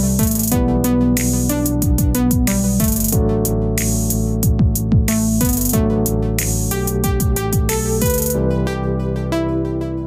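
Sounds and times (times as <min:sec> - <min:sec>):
drum machine beat: 0:00.0 - 0:08.4.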